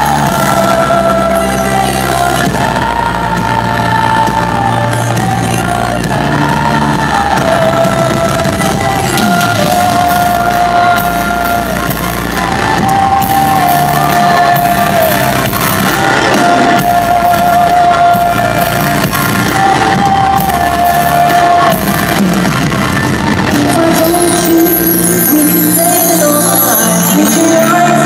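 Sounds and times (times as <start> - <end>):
band with electric guitar: 0.0 - 28.0
crowd shouting and whooping: 0.0 - 28.0.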